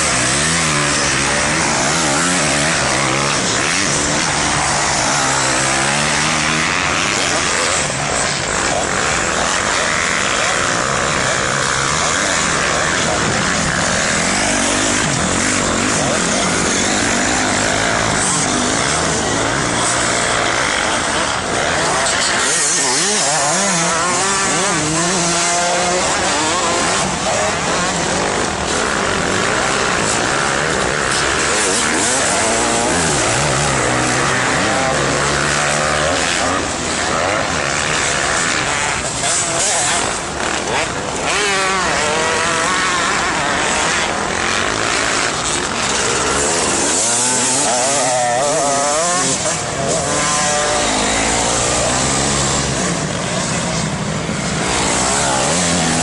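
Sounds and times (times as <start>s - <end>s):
dirt bike engine revving: 0.0s - 56.0s
loud rushing noise: 0.0s - 56.0s.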